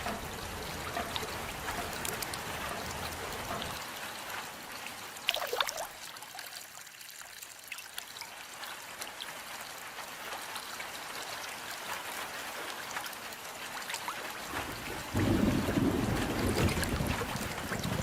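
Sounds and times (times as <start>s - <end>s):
rain falling: 0.0s - 18.0s
water drips: 0.0s - 18.0s
water trickling: 0.0s - 18.0s.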